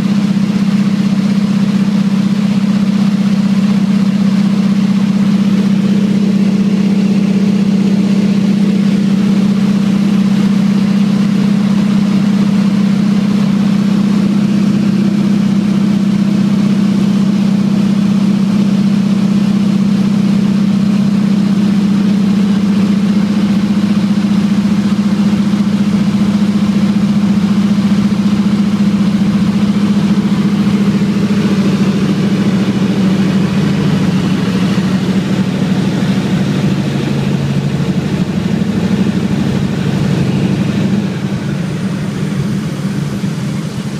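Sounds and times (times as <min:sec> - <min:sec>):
propeller plane engine drone: 0:00.0 - 0:43.9.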